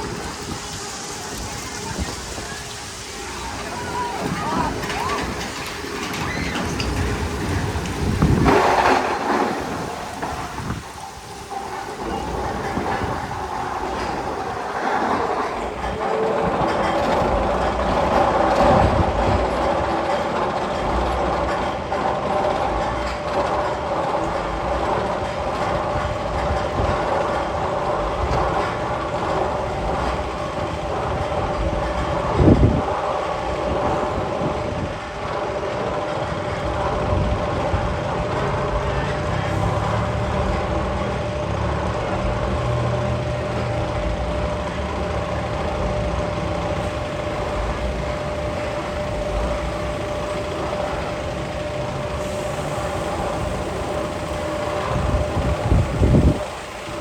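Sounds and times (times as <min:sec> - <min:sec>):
mechanical rumble: 0:00.0 - 0:57.0.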